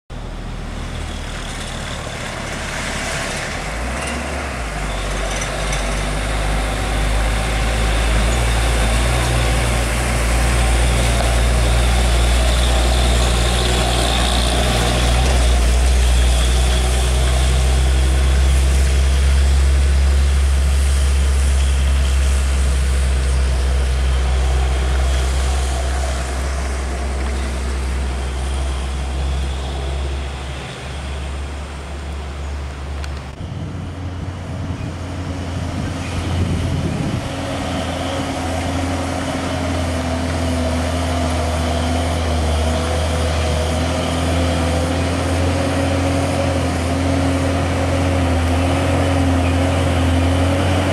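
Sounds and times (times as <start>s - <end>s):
large engine droning: 0.1s - 50.9s.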